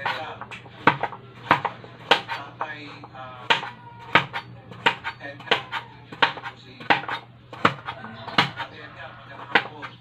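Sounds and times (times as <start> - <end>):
knife chopping on plastic board: 0.0 - 10.0.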